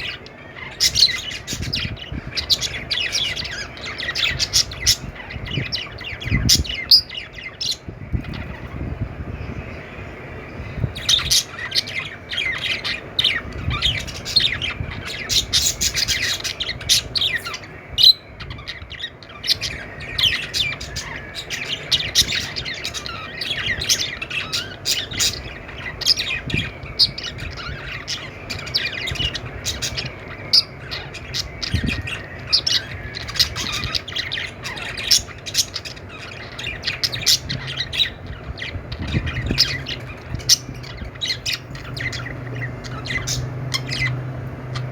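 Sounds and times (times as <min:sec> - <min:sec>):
budgerigars chattering and squawking: 0:00.0 - 0:44.9.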